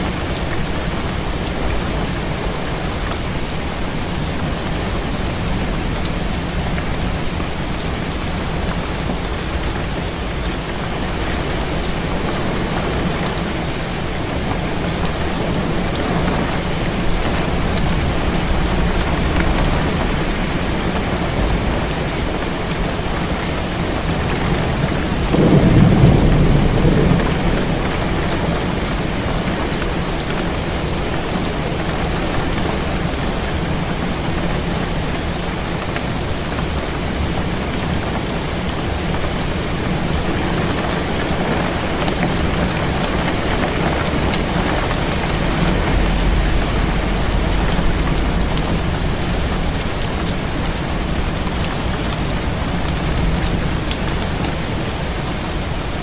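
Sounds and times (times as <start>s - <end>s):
low rumble of thunder: 0.0s - 35.6s, 36.6s - 55.9s
heavy rain on a window: 0.0s - 56.0s.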